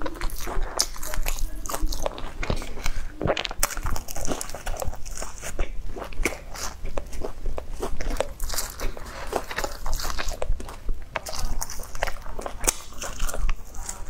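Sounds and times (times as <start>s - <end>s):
crunching crusty bread: 0.0s - 14.0s
wet mouth clicks: 0.0s - 14.0s.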